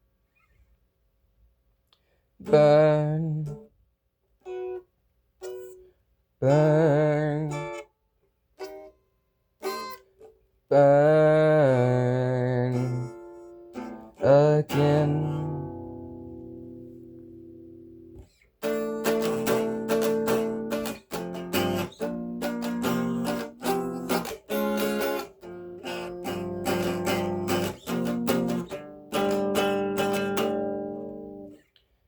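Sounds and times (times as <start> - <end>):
guitar strumming chords: 2.4 - 3.7, 4.4 - 7.9, 8.6 - 9.0, 9.6 - 31.6.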